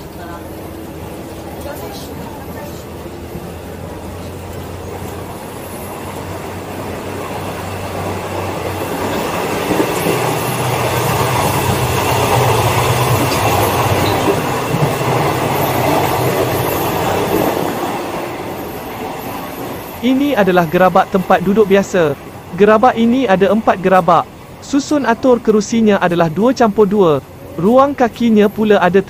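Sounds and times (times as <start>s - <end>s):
carriages rattling: 0.0s - 29.0s
train wheels on rails: 0.0s - 29.0s.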